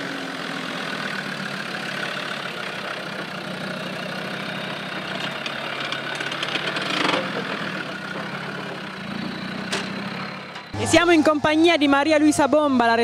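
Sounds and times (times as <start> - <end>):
engine running at low revs: 0.0 - 12.9.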